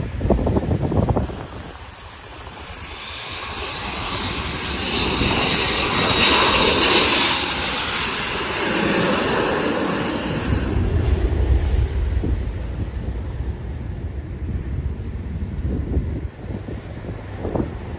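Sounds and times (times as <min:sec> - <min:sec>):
jet airliner passing: 0:00.0 - 0:17.9.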